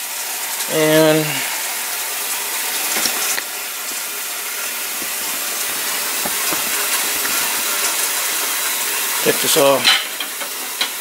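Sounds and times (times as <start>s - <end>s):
running water: 0.0s - 11.0s
steam hissing: 0.0s - 11.0s.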